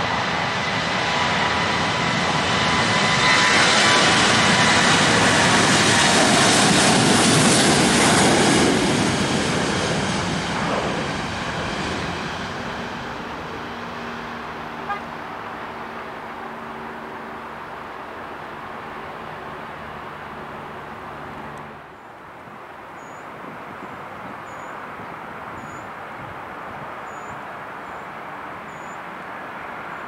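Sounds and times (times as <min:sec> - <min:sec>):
jet engine takeoff roar: 0:00.0 - 0:30.0.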